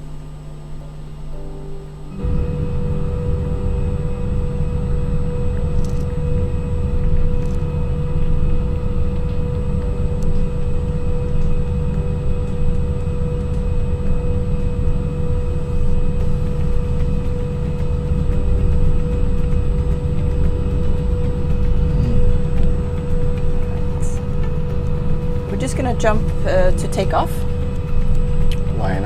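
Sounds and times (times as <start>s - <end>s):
constant engine whine: 0.0s - 29.0s
low jet engine rumble: 2.2s - 29.0s.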